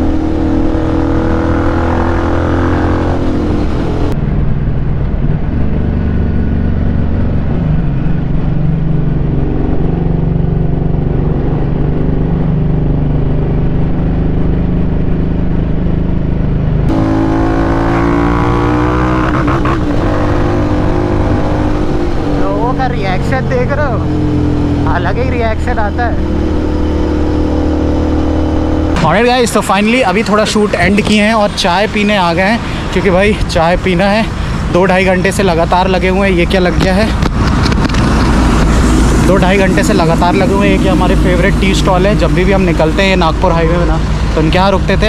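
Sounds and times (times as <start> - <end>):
motorcycle engine running: 0.0 - 31.7, 35.2 - 45.0.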